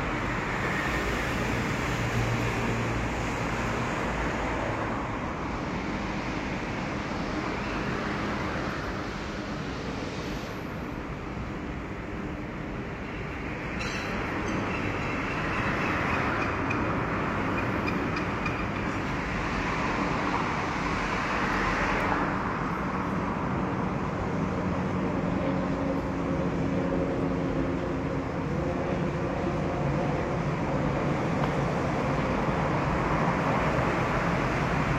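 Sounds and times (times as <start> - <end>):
electric train running on rails: 0.0 - 34.9.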